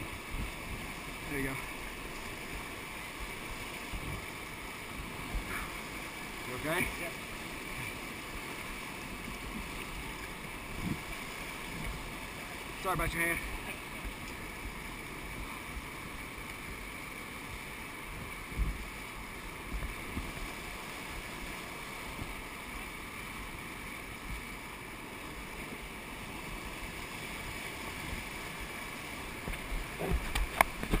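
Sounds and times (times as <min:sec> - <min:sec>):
whitewater rapids rushing: 0:00.0 - 0:31.0.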